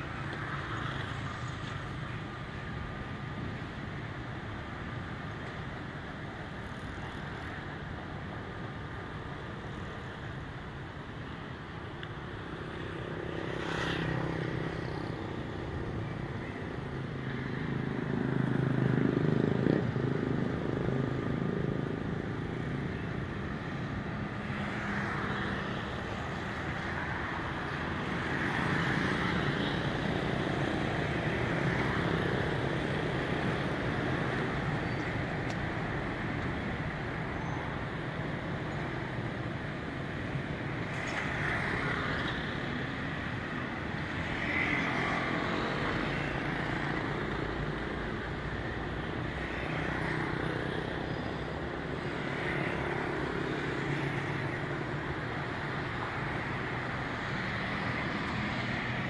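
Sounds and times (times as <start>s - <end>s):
road traffic hum: 0.0s - 59.0s.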